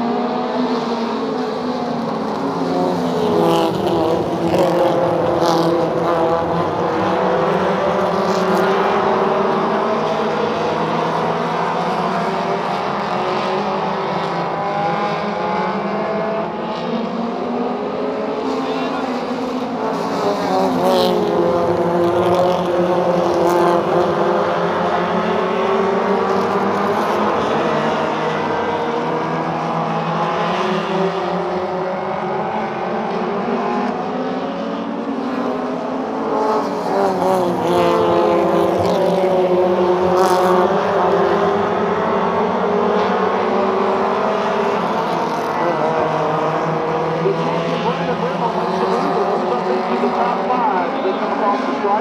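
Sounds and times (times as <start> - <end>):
race car engines: 0.0 - 52.0.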